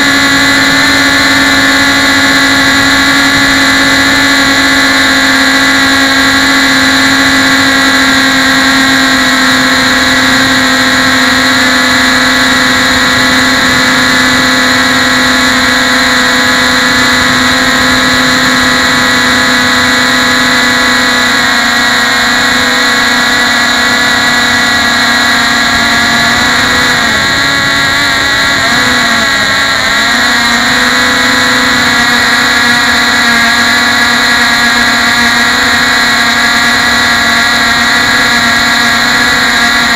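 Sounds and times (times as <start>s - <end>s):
model engines buzzing: 0.0s - 39.9s.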